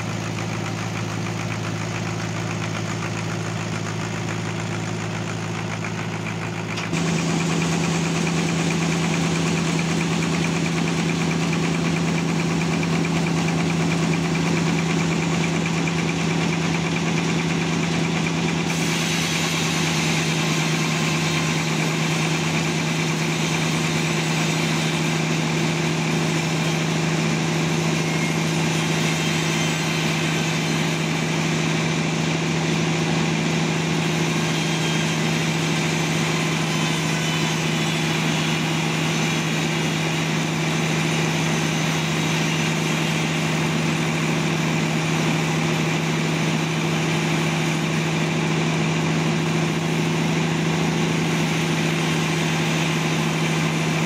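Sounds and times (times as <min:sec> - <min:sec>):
sawmill motor humming: 0:00.0 - 0:54.0.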